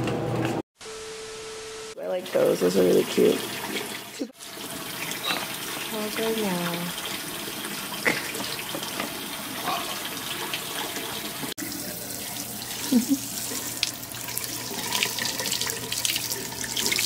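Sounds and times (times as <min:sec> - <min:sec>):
tap water running into sink: 0:02.8 - 0:17.0.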